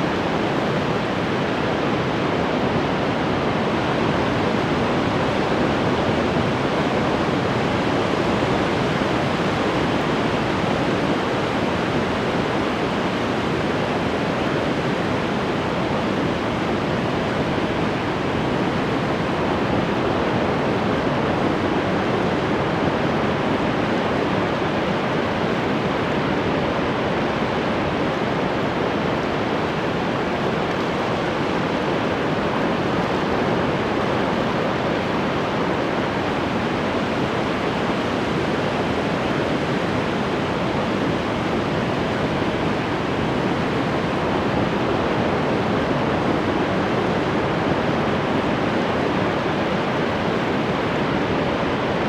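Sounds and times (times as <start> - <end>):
ocean surf roaring: 0.0 - 52.0.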